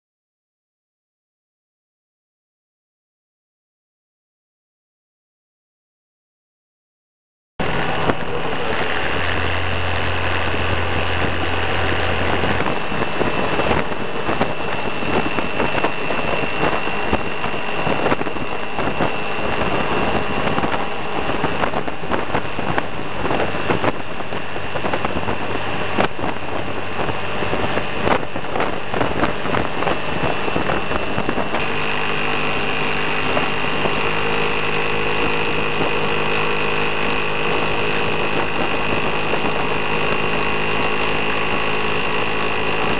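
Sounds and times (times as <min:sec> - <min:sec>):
high whine: 0:07.6 - 0:42.9
vehicle engine and road noise: 0:07.6 - 0:42.9.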